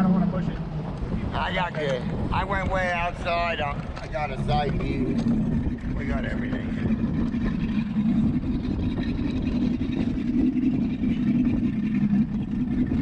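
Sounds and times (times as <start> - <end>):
motorboat engine idling: 0.0 - 13.0.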